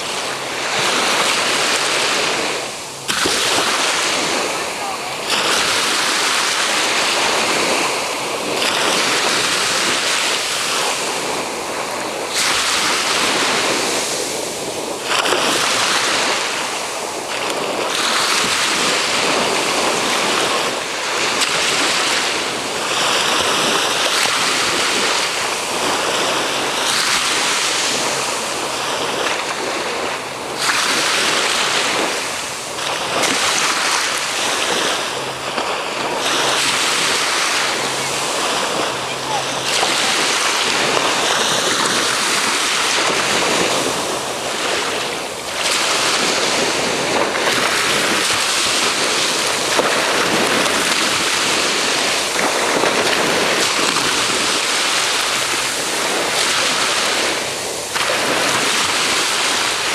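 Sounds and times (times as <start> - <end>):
ocean waves washing: 0.0 - 59.9
wind on microphone: 0.0 - 59.9.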